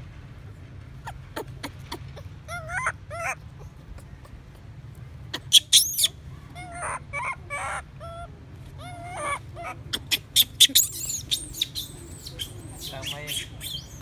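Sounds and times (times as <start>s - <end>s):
baby monkey distress cries: 1.0s - 4.7s, 5.3s - 14.0s.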